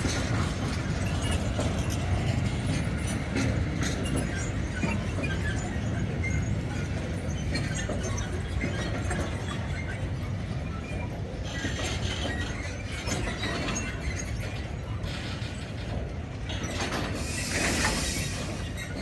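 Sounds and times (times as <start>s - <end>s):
railway wagons rumbling: 0.0s - 19.0s
wheels squealing on rails: 0.0s - 19.0s.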